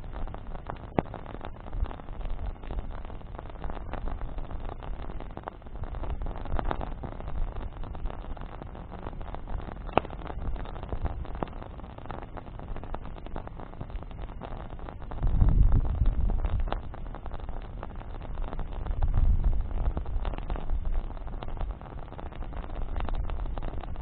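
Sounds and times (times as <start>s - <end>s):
campfire crackling and popping: 0.0s - 24.0s
low rushing of flames: 0.0s - 24.0s
wind: 0.0s - 24.0s.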